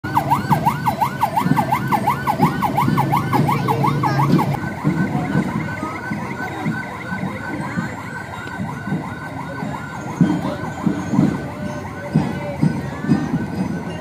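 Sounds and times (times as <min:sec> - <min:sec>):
vehicle siren yelping: 0:00.0 - 0:14.0.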